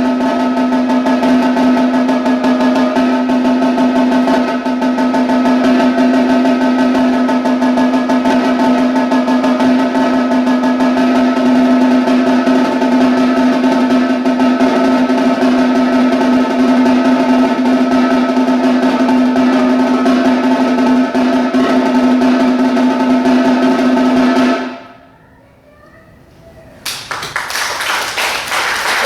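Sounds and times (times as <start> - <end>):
snare drum roll: 0.0 - 24.7.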